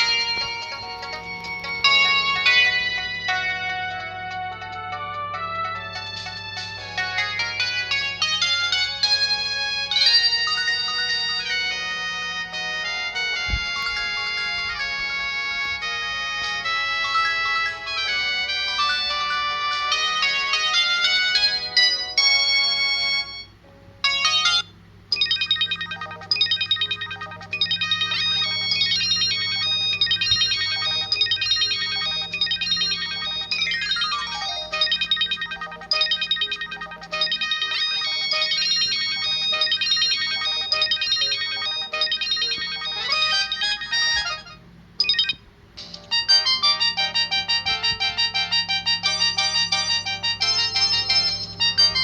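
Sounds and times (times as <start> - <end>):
polyphonic ringtone melody: 0.0 - 52.0.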